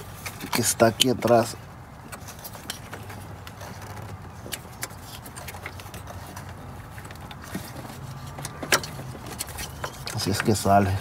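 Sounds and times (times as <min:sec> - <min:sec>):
clicks and taps on engine parts: 0:00.0 - 0:11.0.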